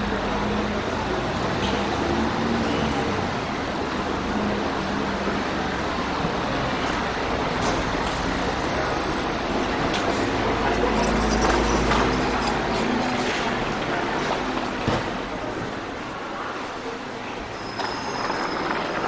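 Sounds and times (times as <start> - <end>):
cars idling and passing: 0.0 - 19.0.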